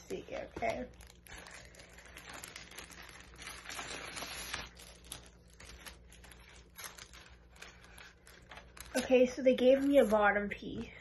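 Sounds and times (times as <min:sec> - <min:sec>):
plastic packaging crinkling: 0:00.4 - 0:10.7.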